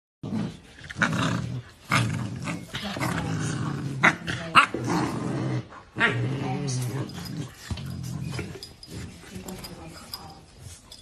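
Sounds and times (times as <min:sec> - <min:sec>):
dogs growling: 0:00.2 - 0:11.0.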